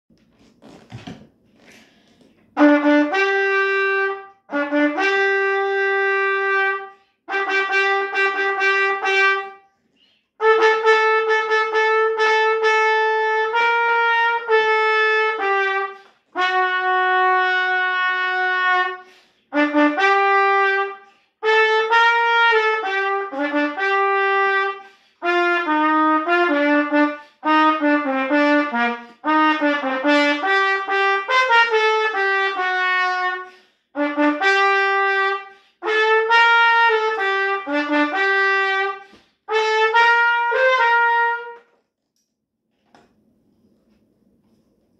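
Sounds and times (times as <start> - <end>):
trumpet melody: 2.5 - 9.8, 10.4 - 41.8.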